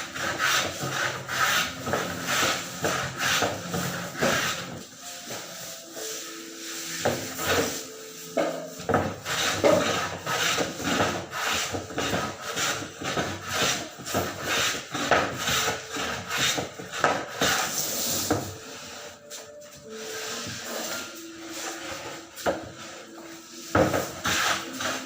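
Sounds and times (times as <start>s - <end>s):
rhythmic rasping strokes by hand: 0.0s - 25.0s.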